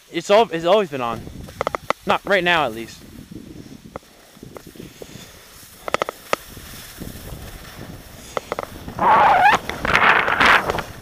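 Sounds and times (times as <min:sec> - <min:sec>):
skis scraping snow: 0:00.0 - 0:11.0
skis sliding on snow: 0:00.0 - 0:11.0.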